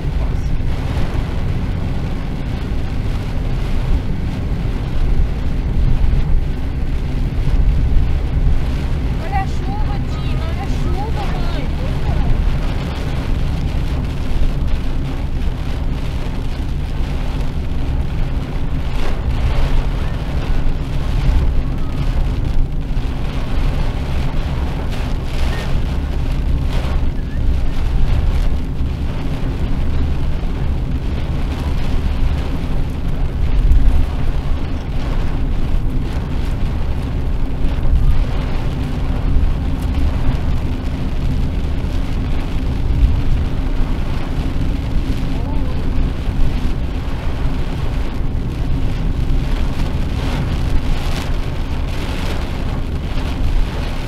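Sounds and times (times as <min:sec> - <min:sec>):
car engine and tyre drone: 0:00.0 - 0:54.0
rain hitting windshield: 0:00.0 - 0:54.0.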